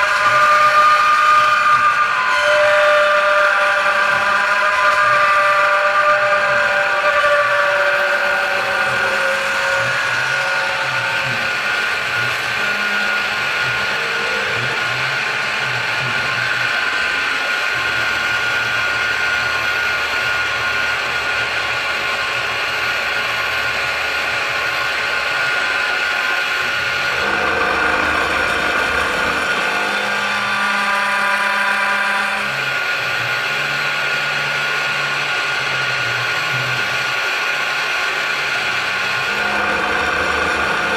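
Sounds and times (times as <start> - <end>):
milling machine cutting metal: 0.0 - 40.9.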